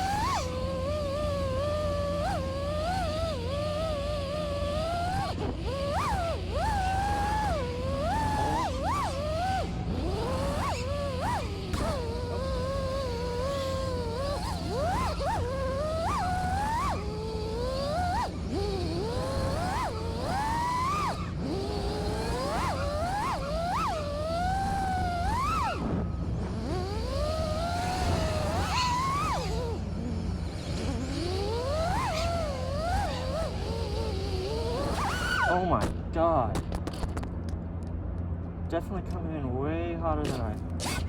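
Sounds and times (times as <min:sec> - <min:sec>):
drone motors whining: 0:00.0 - 0:41.0.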